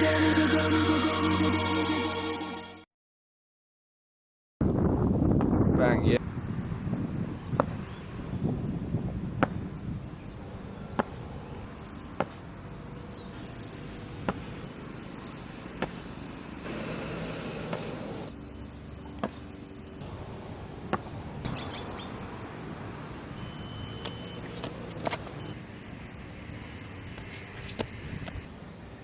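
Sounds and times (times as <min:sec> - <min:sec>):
outdoor background noise: 0:04.6 - 0:29.0.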